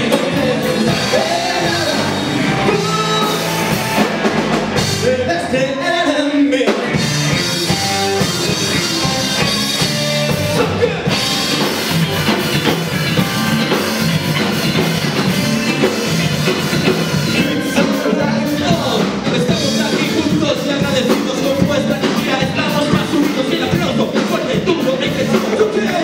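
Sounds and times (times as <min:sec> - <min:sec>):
drum kit beating: 0:00.0 - 0:05.6, 0:06.7 - 0:26.0
electric bass guitar: 0:00.0 - 0:26.0
live rock band playing: 0:00.0 - 0:26.0.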